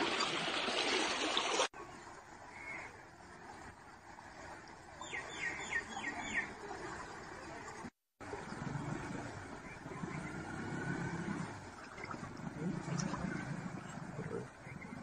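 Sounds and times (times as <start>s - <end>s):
outdoor ambience: 0.0s - 15.0s
water splashing from wading: 0.0s - 15.0s.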